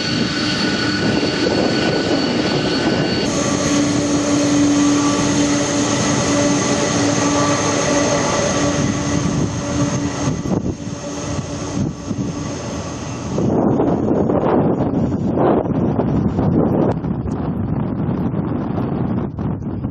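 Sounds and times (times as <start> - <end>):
jet engines roaring: 0.0 - 19.2
high-pitched fan whine: 0.0 - 19.8.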